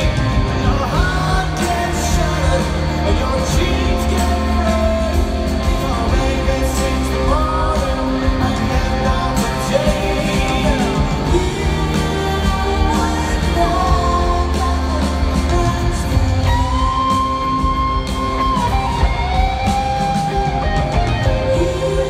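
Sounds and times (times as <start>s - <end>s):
live rock band playing: 0.0s - 22.0s
person singing: 0.0s - 22.0s.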